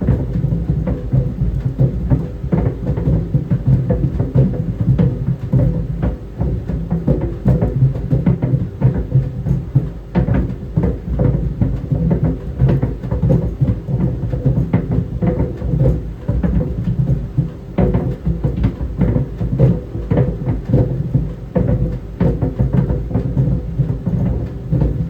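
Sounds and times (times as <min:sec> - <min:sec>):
balls thudding in dryer drum: 0:00.0 - 0:25.0.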